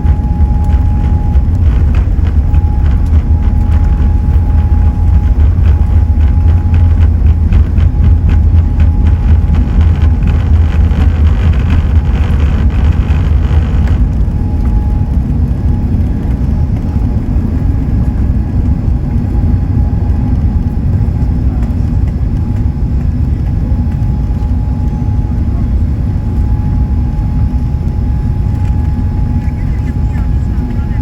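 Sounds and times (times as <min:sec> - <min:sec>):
airplane cabin engine rumble: 0:00.0 - 0:31.0
faint steady whine: 0:00.0 - 0:31.0.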